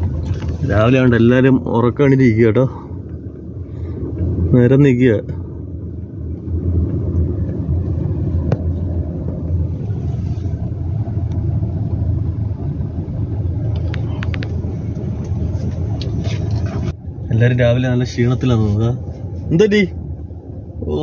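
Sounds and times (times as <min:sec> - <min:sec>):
vehicle rumble from inside: 0:00.0 - 0:21.0.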